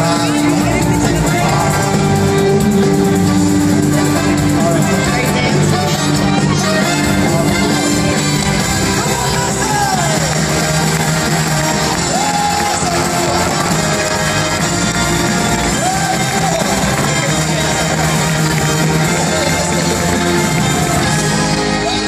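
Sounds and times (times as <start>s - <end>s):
show music over sound system: 0.0s - 22.0s.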